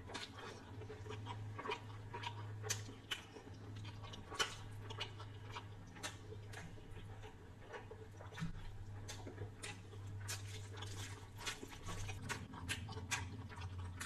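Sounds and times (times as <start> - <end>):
close-up chewing food: 0.0 - 14.0
steady low hum: 0.0 - 14.0
wet mouth clicks and smacks: 1.1 - 7.3, 8.2 - 14.0.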